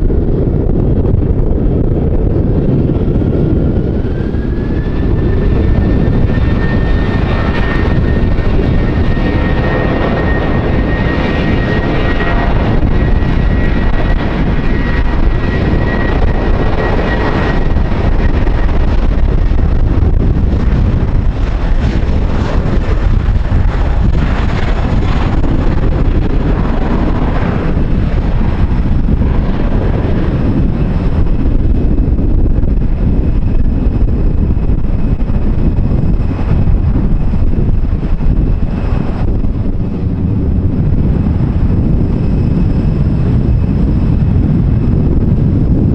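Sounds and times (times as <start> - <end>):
jet engines rumbling: 0.0 - 45.9
wind buffeting microphone: 0.0 - 45.9.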